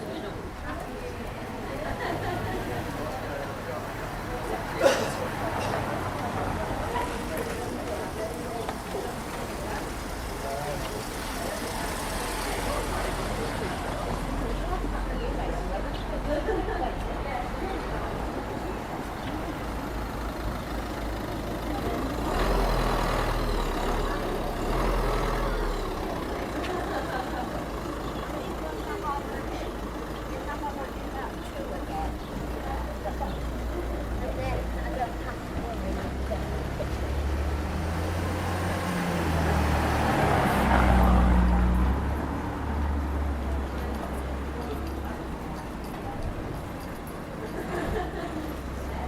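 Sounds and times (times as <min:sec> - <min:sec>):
heavy vehicle engine rumble: 0:00.0 - 0:49.0
steady traffic noise: 0:00.0 - 0:49.0.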